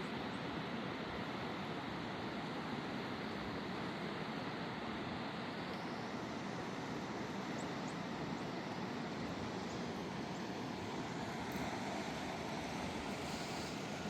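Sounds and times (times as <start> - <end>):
river water rushing: 0.6 - 14.0.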